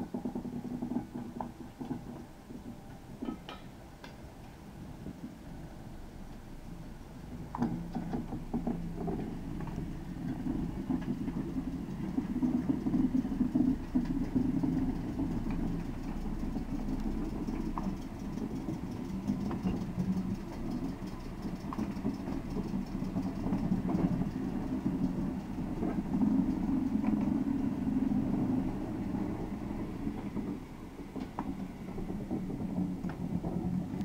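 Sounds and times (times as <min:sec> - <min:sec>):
train rolling past: 0:00.0 - 0:34.0
wheels clicking on track: 0:00.0 - 0:34.0.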